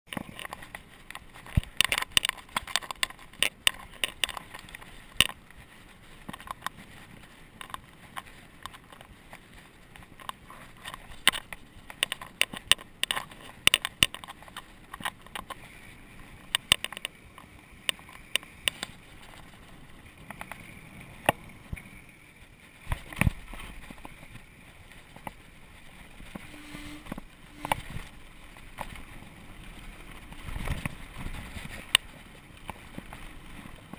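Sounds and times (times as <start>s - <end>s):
bike rattling over bumps: 0.1s - 33.9s
hiss of tyres and wind: 0.2s - 33.9s.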